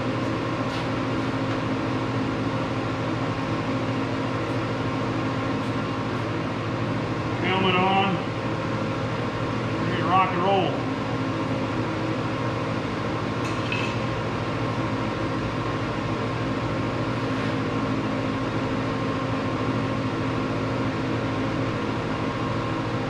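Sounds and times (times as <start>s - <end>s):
shop equipment humming: 0.0s - 23.0s.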